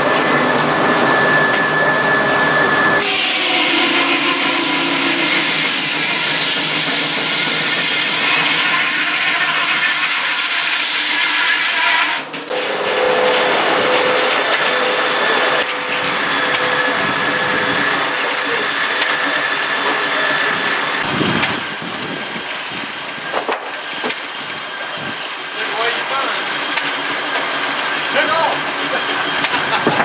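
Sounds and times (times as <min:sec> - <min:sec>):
steady whine: 0:00.0 - 0:09.9, 0:12.5 - 0:30.0
saw cutting through wood: 0:00.0 - 0:30.0.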